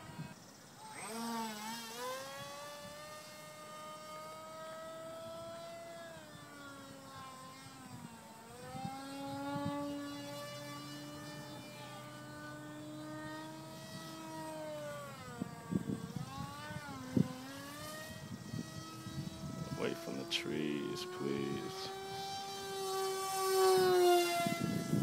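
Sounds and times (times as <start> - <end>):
electric motor and propeller whining: 0.0 - 25.0.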